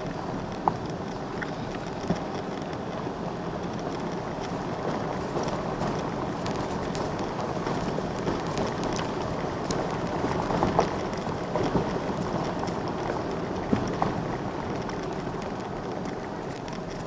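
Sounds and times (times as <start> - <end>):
cart bumping over stones: 0.0 - 17.0
tyres crunching on gravel: 0.0 - 17.0.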